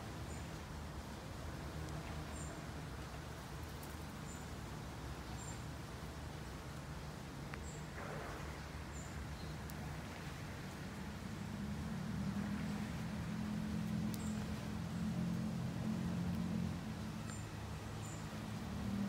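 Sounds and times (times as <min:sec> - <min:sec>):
rustle: 0:00.0 - 0:19.0.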